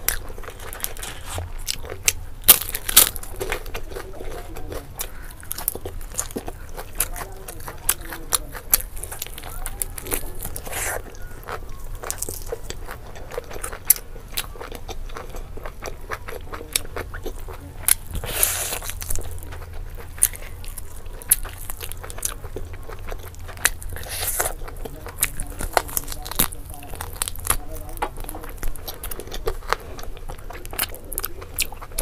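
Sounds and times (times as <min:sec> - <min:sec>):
chewing and biting meat: 0:00.0 - 0:32.0.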